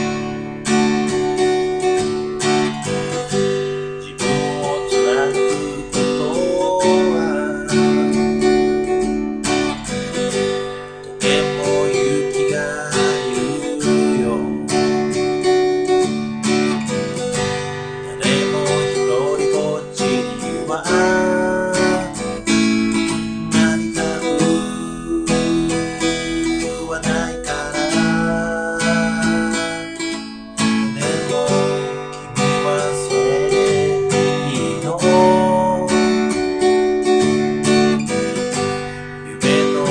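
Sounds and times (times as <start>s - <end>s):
man singing: 0.0s - 16.0s, 18.0s - 39.9s
acoustic guitar strumming chords: 0.0s - 39.9s.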